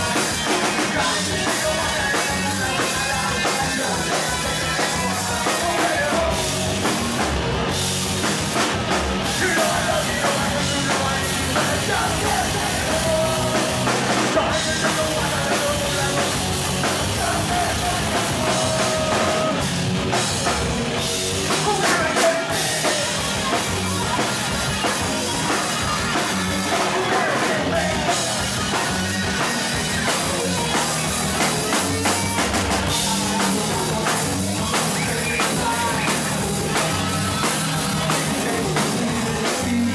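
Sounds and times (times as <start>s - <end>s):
lead vocal singing: 0.0s - 7.4s, 8.3s - 39.9s
drum kit: 0.0s - 39.9s
electric guitars: 0.0s - 39.9s.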